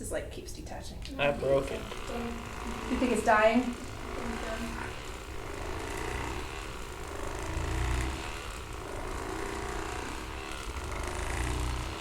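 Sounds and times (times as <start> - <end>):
electric massager buzzing: 0.0 - 12.0.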